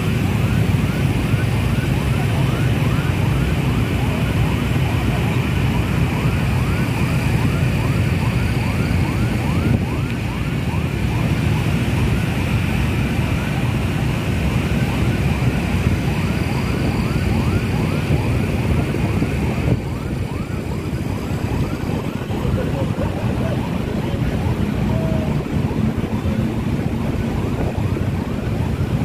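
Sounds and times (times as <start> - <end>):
fast yelping vehicle siren: 0.0 - 29.0
motorcycle engines droning: 0.0 - 29.0
wind noise: 0.0 - 29.0.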